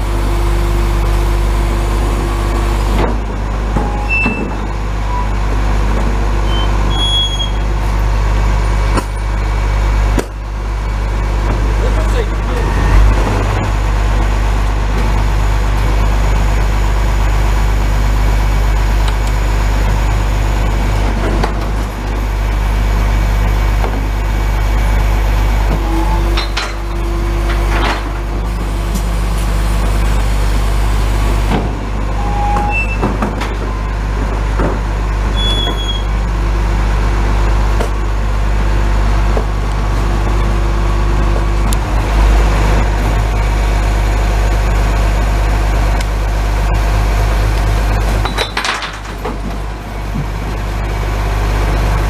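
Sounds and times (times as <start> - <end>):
garbage truck diesel engine running: 0.0 - 52.0.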